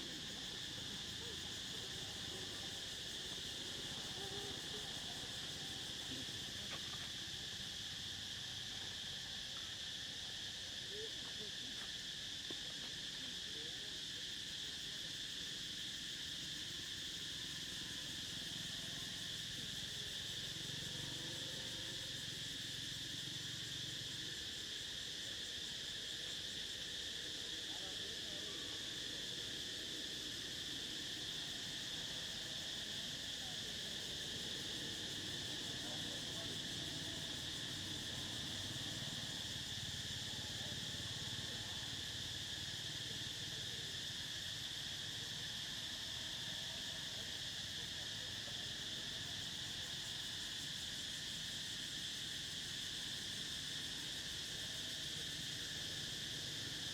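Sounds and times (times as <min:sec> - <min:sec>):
insect chorus drone: 0:00.0 - 0:56.9.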